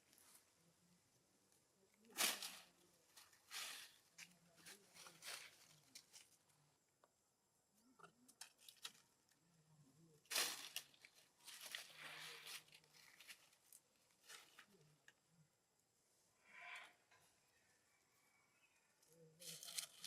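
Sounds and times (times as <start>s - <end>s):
faint rustling and crinkling: 0.0s - 7.1s, 7.7s - 15.4s, 16.5s - 20.0s.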